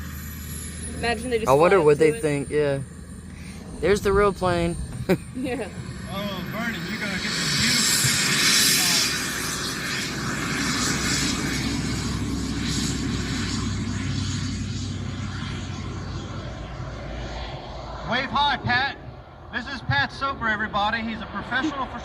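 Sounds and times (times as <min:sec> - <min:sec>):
airplane engine drone: 0:00.0 - 0:22.0.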